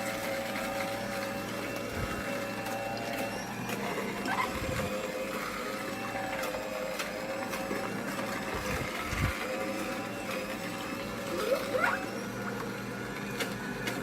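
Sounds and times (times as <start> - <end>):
juicer motor humming: 0.0 - 14.0.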